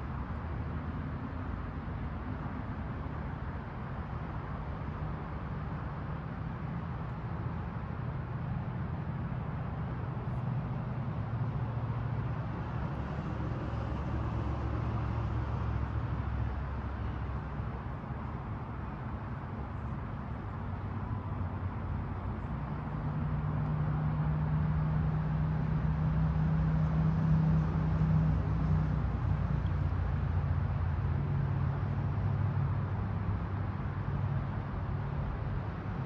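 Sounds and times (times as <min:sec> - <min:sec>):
distant traffic rumble: 0:00.0 - 0:36.0.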